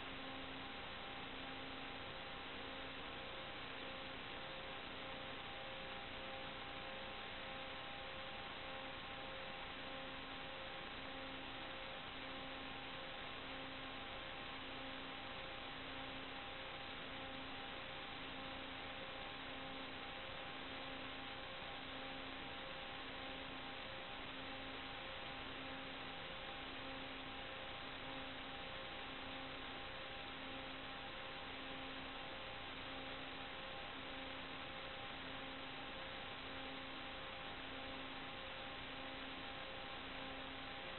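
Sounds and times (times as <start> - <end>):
faint hum of fixed tones: 0.0 - 40.9.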